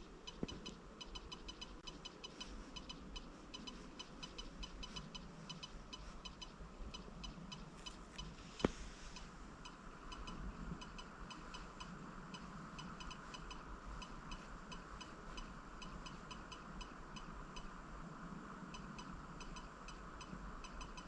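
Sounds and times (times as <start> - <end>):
high-pitched electronic ticks: 0.0 - 21.0.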